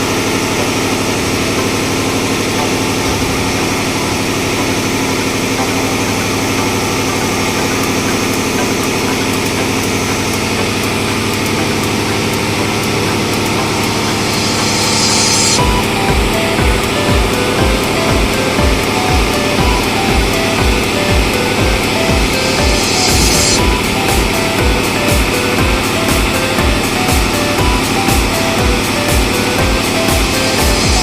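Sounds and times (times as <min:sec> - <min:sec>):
engine room machinery humming: 0:00.0 - 0:31.0.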